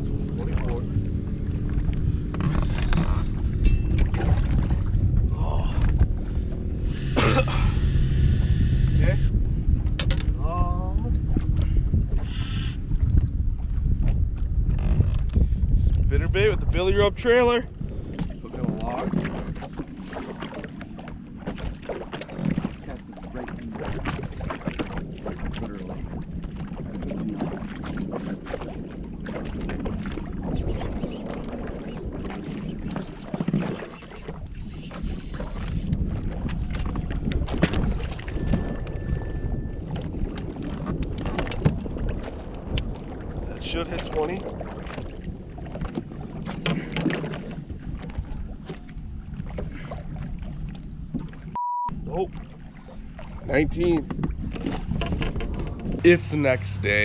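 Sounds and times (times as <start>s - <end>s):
small waves slapping a boat hull: 0.0s - 7.0s, 9.4s - 57.0s
wind buffeting microphone: 0.0s - 57.0s.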